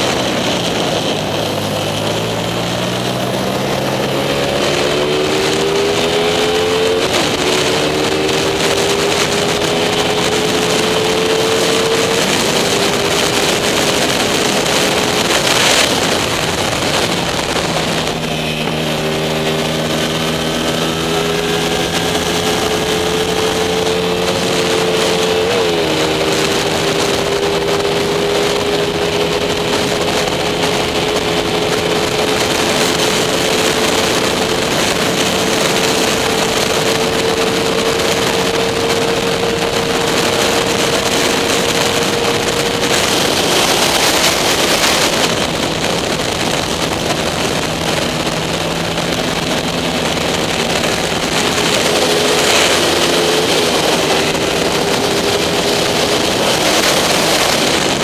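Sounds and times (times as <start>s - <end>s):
motorcycle engine at high revs: 0.0s - 58.0s
wind rushing: 0.0s - 58.0s.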